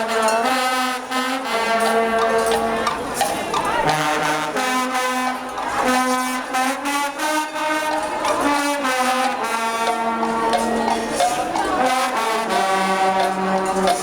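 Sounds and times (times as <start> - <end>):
marching brass band playing: 0.0 - 14.0.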